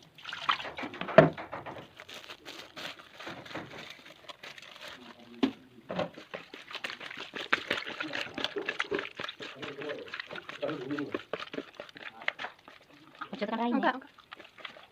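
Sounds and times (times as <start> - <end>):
rustling and crinkling: 0.4 - 13.5.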